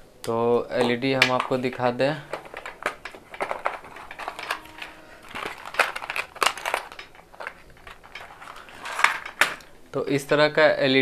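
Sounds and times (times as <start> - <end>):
small clicks and knocks: 0.2 - 9.7
plastic crinkling: 0.9 - 9.9.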